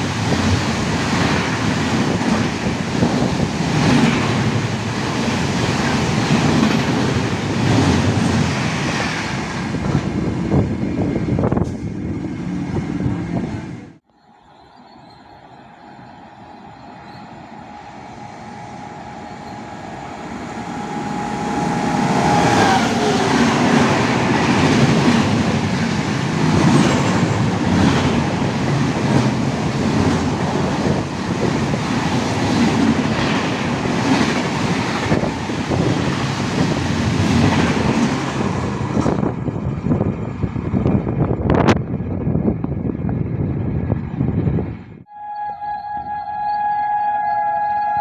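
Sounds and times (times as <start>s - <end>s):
train passing with whine: 0.0s - 48.0s.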